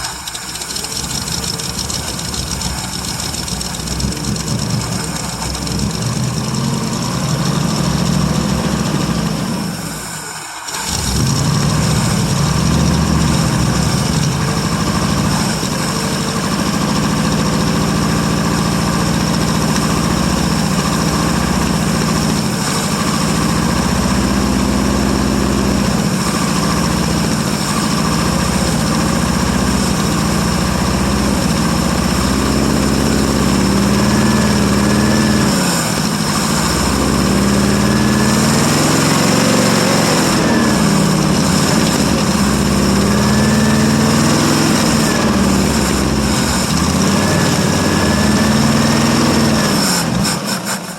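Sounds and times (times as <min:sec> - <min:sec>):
pickup engine revving: 0:00.0 - 0:50.9.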